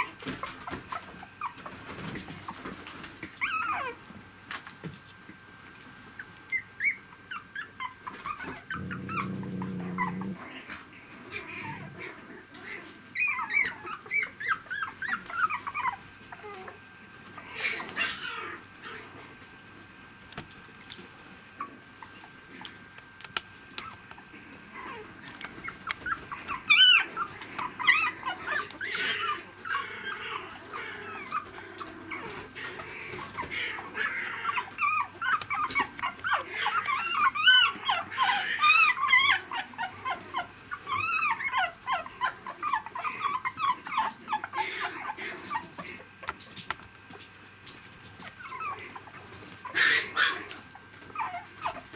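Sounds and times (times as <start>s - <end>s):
puppies whimpering and squeaking: 0.0s - 4.2s, 6.0s - 19.4s, 23.8s - 46.2s, 48.1s - 51.9s.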